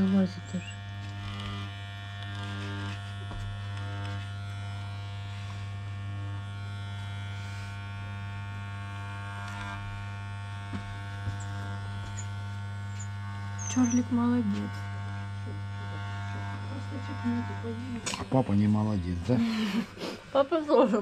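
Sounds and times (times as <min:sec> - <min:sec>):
electric pet clippers buzzing: 0:00.0 - 0:21.0.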